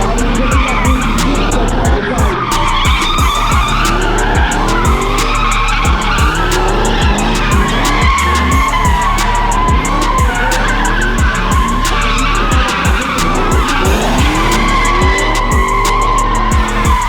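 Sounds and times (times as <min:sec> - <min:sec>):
background music with beat: 0:00.0 - 0:17.0
car engines running hard: 0:00.0 - 0:17.0
car tyres squealing: 0:00.0 - 0:17.0.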